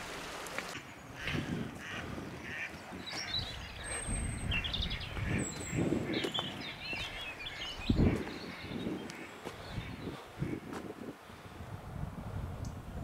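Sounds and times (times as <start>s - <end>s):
birds chirping: 0.6s - 11.1s.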